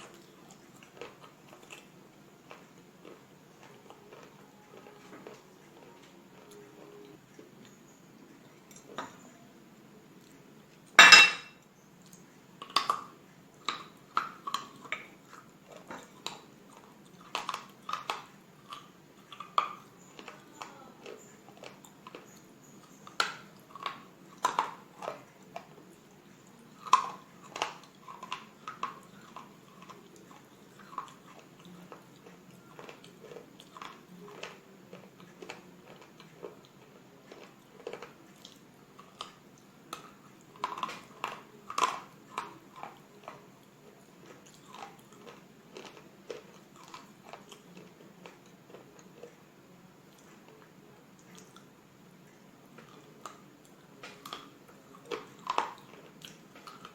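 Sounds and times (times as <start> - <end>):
chewing brittle crunches: 0.0 - 9.3, 12.0 - 56.9.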